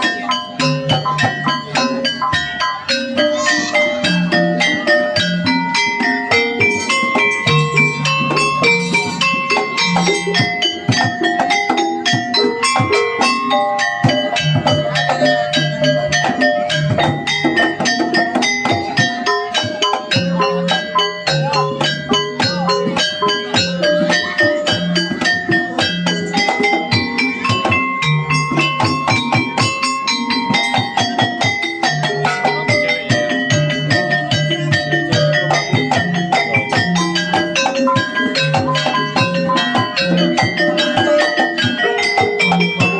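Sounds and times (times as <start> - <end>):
struck metallophone melody: 0.0 - 42.9.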